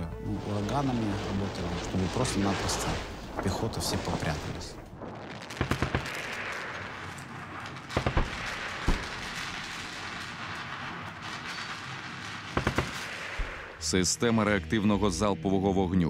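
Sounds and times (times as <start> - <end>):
gunshots: 0.5 - 13.8.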